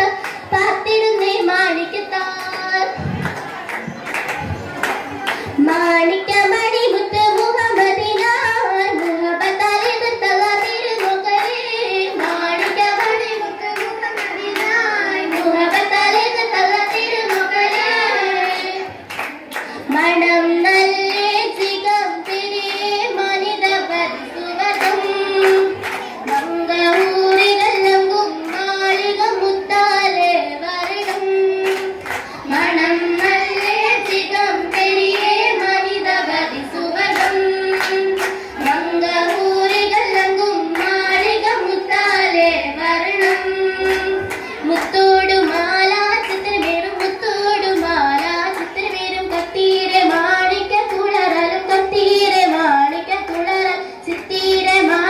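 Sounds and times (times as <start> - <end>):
girls singing in unison: 0.0 - 55.0
rhythmic hand clapping: 0.0 - 55.0.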